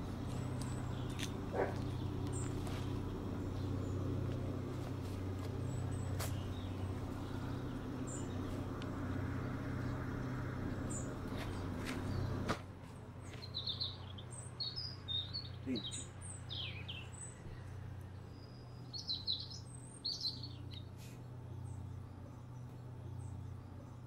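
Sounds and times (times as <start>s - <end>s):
low droning hum: 0.0s - 24.0s.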